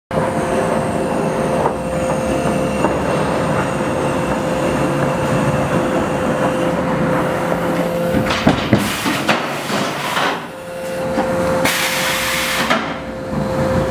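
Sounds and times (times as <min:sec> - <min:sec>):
sawmill machinery running: 0:00.1 - 0:13.9
steady whine: 0:00.1 - 0:13.9.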